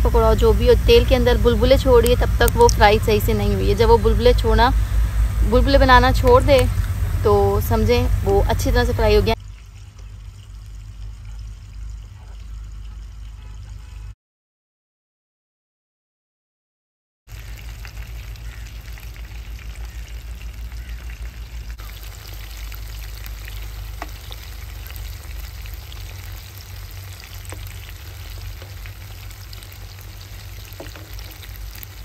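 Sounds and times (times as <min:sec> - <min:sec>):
oil sizzling and crackling: 0:00.0 - 0:14.1, 0:17.3 - 0:32.0.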